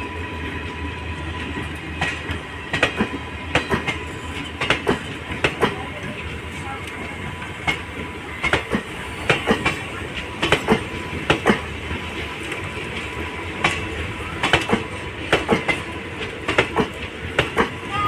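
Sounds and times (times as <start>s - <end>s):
steady train rumble: 0.0s - 18.0s
train wheels clacking over rail joints: 1.3s - 18.0s.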